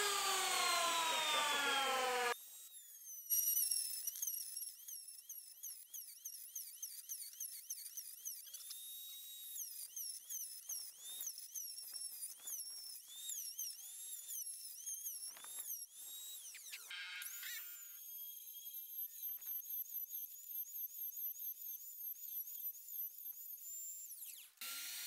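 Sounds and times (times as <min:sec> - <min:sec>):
wood router whining: 0:00.0 - 0:19.8, 0:23.4 - 0:25.0.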